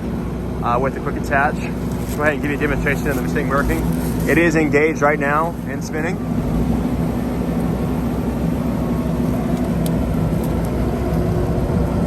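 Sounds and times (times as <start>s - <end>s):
skid steer engine running: 0.0s - 12.0s.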